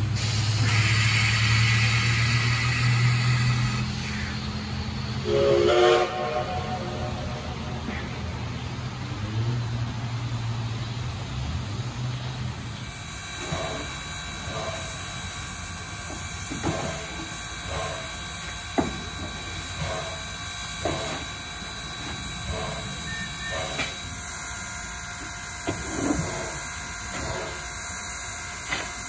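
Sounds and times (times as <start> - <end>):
steam hissing: 0.0 - 9.5, 12.0 - 29.0.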